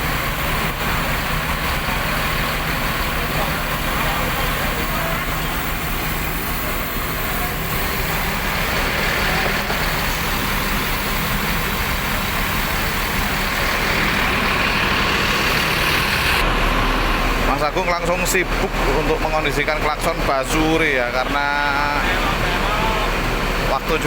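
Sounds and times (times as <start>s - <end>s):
bus engine idling: 0.0s - 24.0s.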